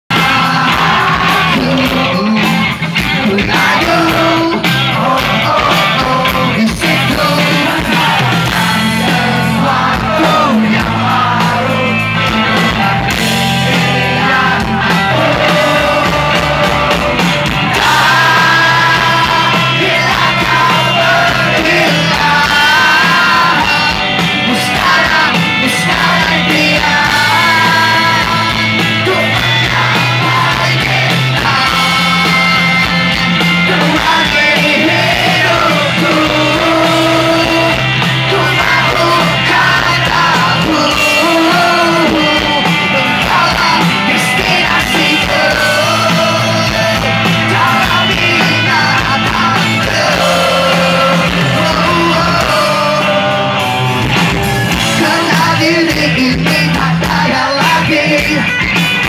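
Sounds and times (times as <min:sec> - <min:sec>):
person singing: 0:00.1 - 0:58.7
electric guitar: 0:00.1 - 0:59.0
live rock band: 0:00.1 - 0:59.0.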